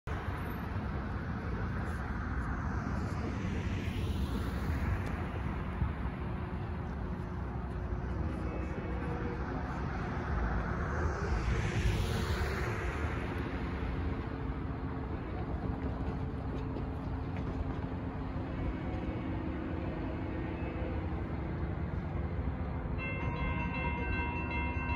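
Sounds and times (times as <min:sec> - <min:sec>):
low traffic rumble: 0:00.0 - 0:24.9
cars passing: 0:00.1 - 0:24.9.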